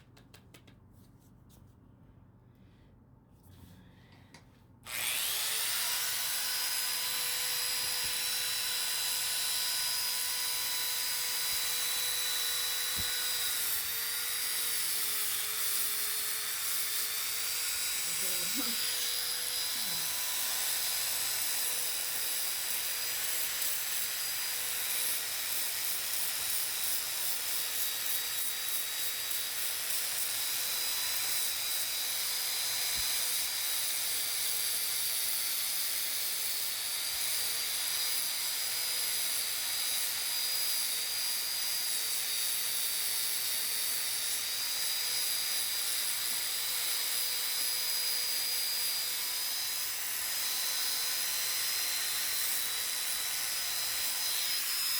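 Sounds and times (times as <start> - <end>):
power sander on wood: 4.9 - 54.9.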